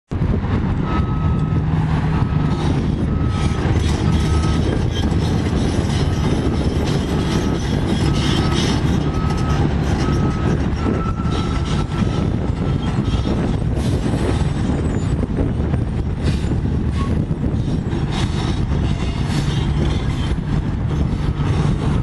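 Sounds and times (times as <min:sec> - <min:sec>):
diesel construction equipment running: 0:00.1 - 0:22.0
excavator tracks rattling: 0:00.2 - 0:22.0.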